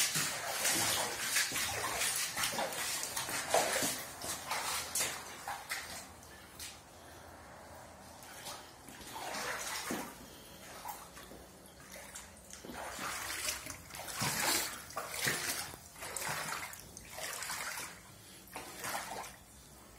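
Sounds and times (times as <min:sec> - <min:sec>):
floodwater splashing and sloshing: 0:00.0 - 0:07.1, 0:08.0 - 0:19.9.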